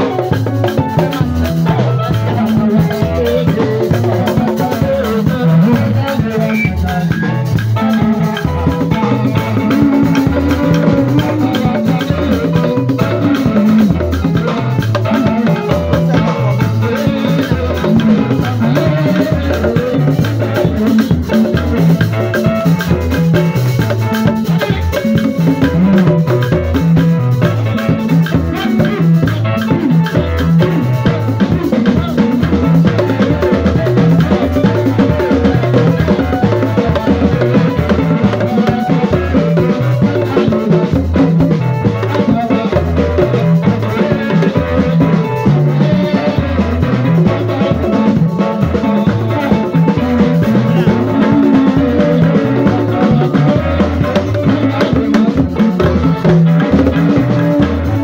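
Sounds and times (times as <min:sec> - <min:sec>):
live band music: 0:00.0 - 0:58.0
wooden hand drums beaten: 0:00.0 - 0:58.0.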